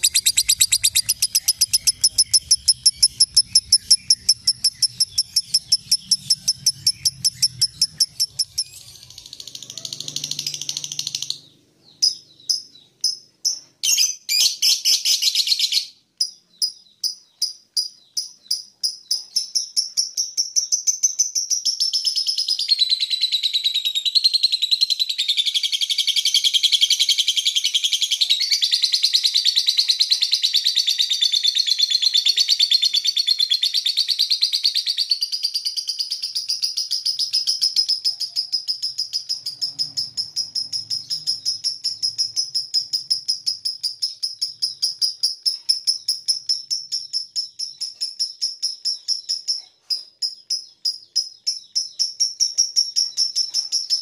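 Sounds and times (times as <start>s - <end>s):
lovebird chattering trill: 0.0s - 54.0s.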